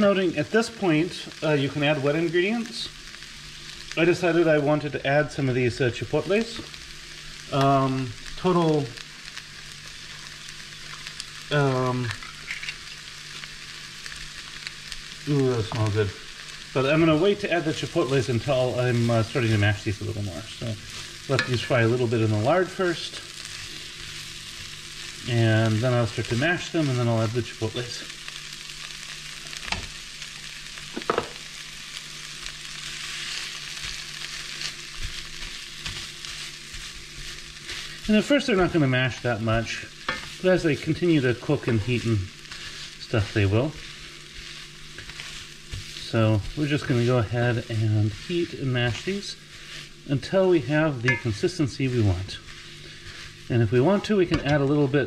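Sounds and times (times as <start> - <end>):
beans and onions sizzling in lard: 0.0 - 55.0.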